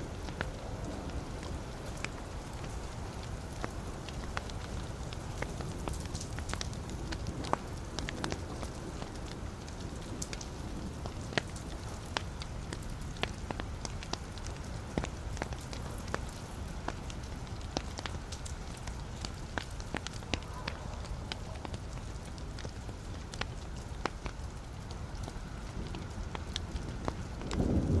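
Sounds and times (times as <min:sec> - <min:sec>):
fire rumbling: 0:00.0 - 0:28.0
logs crackling and popping: 0:00.0 - 0:28.0.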